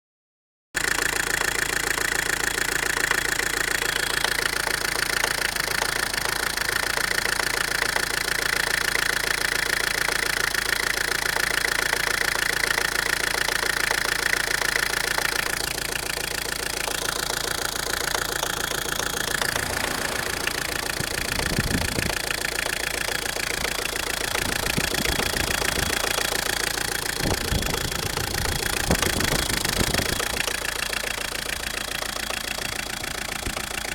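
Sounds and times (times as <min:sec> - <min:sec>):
fuel pump knocking: 0:00.8 - 0:19.7, 0:20.5 - 0:33.9
engine idling: 0:00.8 - 0:33.9.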